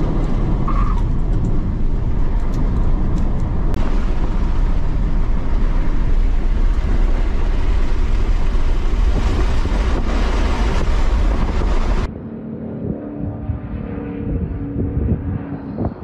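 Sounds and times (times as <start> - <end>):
car accelerating low rumble: 0.0 - 16.0
tyre and road noise: 0.0 - 16.0.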